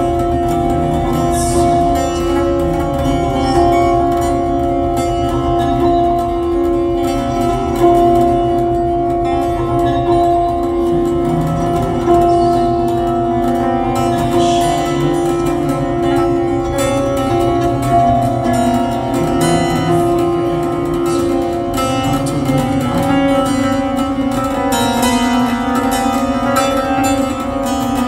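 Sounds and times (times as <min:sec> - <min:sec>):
experimental electronic drone music: 0:00.0 - 0:28.0.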